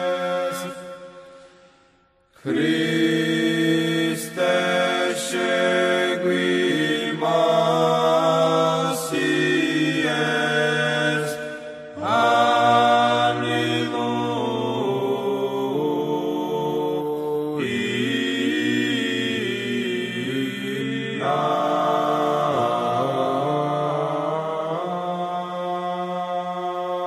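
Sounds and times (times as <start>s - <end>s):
choir singing chant: 0.0s - 1.5s, 2.4s - 27.0s.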